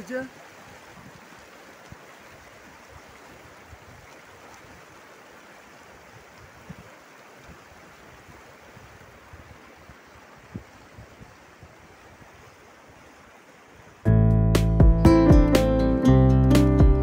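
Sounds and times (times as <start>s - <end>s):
rushing mountain stream: 0.0s - 14.1s.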